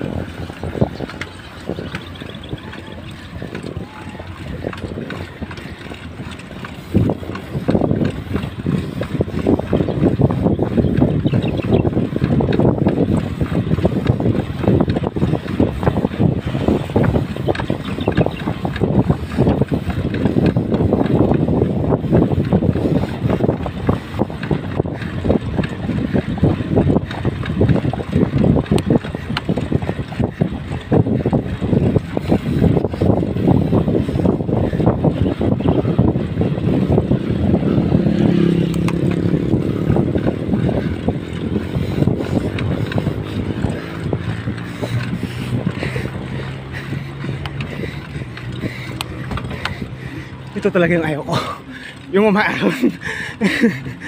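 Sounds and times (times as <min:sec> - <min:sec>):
wind buffeting microphone: 0:00.0 - 0:54.0
sharp ticks: 0:00.2 - 0:35.6, 0:38.3 - 0:53.1.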